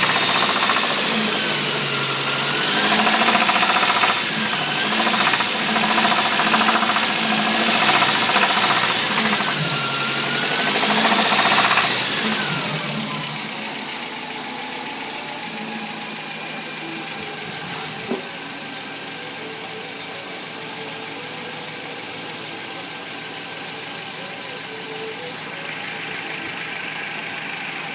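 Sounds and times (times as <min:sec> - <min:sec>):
engine running with rapid knocking: 0:00.0 - 0:27.9.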